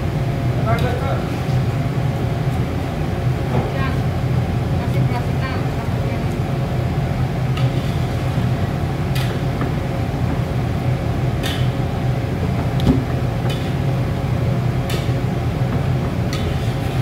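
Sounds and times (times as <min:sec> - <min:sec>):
gas burner rumble: 0:00.0 - 0:17.0.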